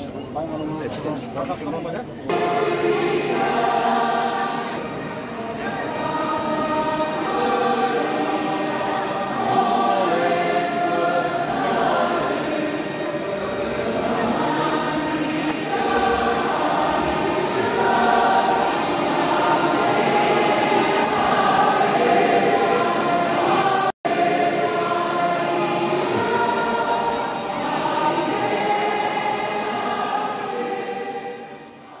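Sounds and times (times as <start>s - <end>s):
choir singing a hymn: 2.3s - 32.0s.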